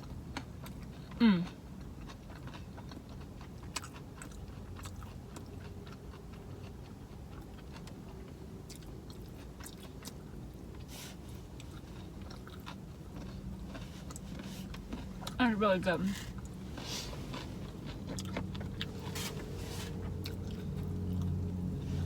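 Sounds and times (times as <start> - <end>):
person chewing food: 0.0 - 15.4, 16.2 - 22.0.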